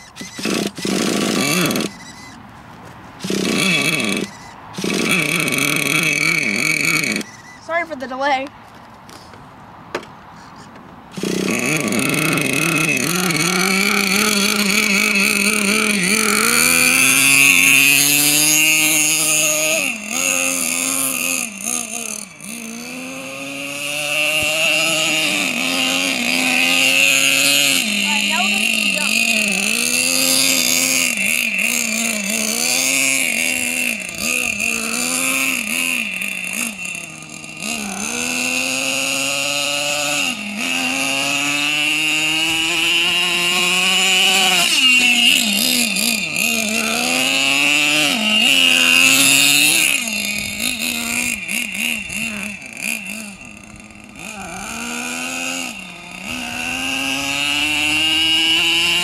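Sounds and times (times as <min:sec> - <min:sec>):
small engine revving: 0:00.0 - 0:09.4, 0:10.2 - 0:59.0.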